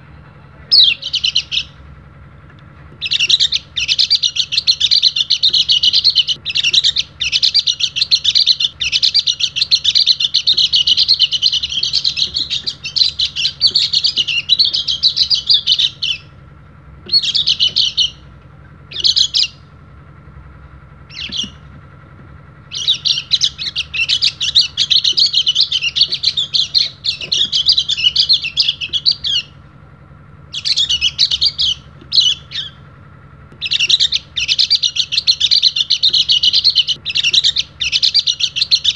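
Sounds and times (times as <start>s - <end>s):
bird twittering chirps: 0.7s - 1.9s, 2.9s - 38.9s.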